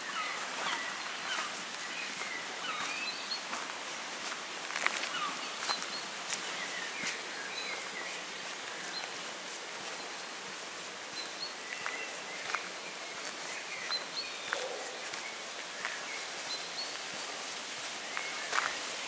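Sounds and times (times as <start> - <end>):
small birds chirping: 0.0 - 19.0
steady outdoor hiss: 0.0 - 19.0
footsteps on dirt path: 0.2 - 19.0.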